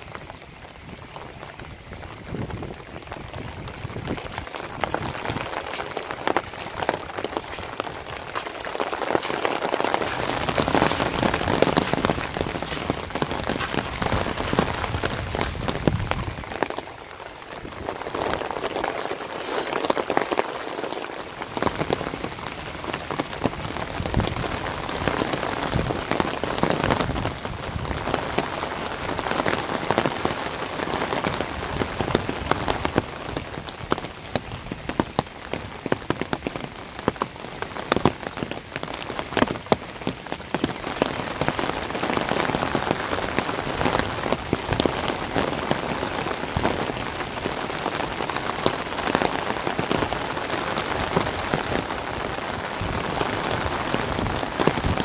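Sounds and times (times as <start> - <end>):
heavy rain on trees and grass: 0.0 - 55.0
close raindrop hits: 0.1 - 55.0.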